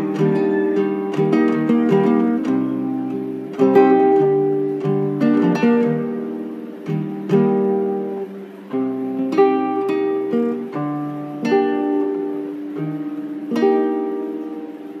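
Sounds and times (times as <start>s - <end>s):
plucked string instrument strumming chords: 0.0s - 15.0s.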